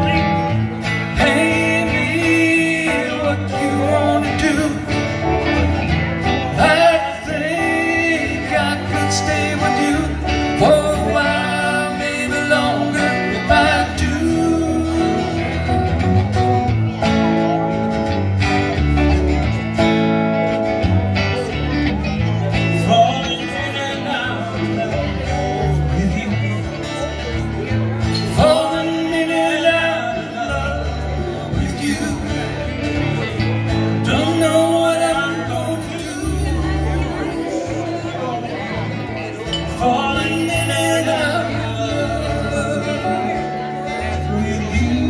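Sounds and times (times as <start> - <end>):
man singing: 0.0 - 17.6, 22.2 - 45.0
electric guitar: 0.0 - 45.0
keyboard: 0.0 - 45.0
strummed acoustic guitar: 0.0 - 45.0.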